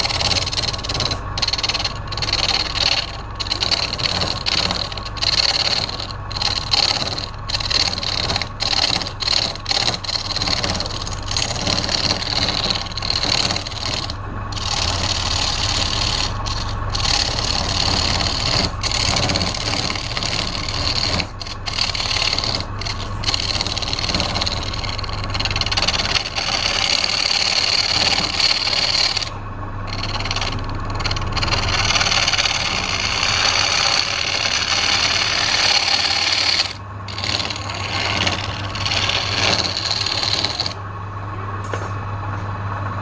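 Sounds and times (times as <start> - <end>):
tool scraping spinning wood: 0.0 - 41.7
lathe motor hum: 0.0 - 42.4.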